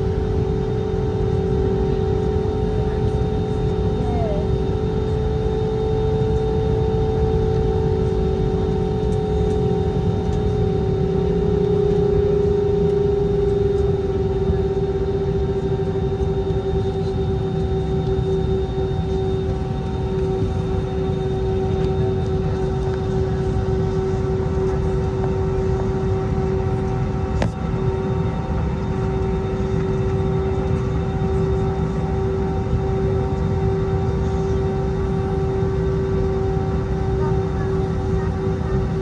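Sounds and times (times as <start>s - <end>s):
aircraft cabin engine rumble: 0.0s - 39.0s.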